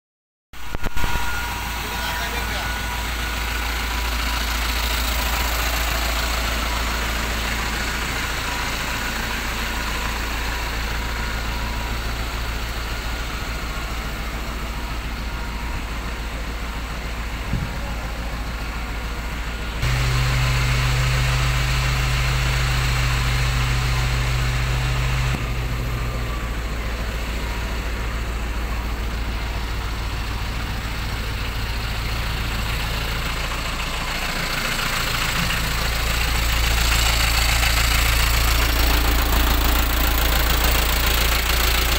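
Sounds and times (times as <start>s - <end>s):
deep hum: 0.6s - 41.2s
truck engine idling: 0.6s - 41.9s.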